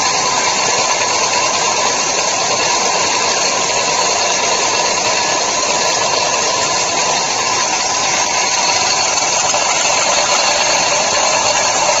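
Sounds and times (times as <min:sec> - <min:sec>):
machine running: 0:00.0 - 0:12.0.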